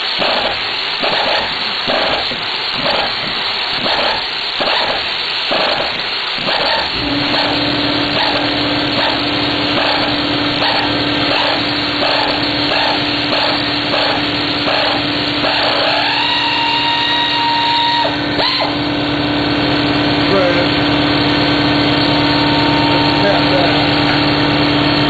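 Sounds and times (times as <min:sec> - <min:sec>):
power tool motor running: 0:00.2 - 0:25.0.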